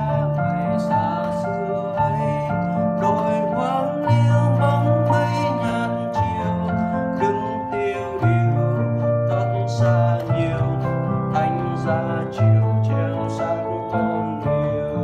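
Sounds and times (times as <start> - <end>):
piano hymn accompaniment: 0.0 - 15.0.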